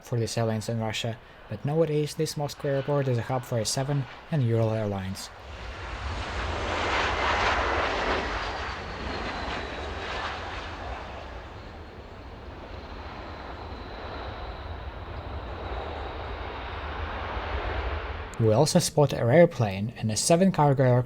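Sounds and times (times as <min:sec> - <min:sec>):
faint high whine: 0:00.1 - 0:18.7
jet engine rush and rumble: 0:01.3 - 0:18.4.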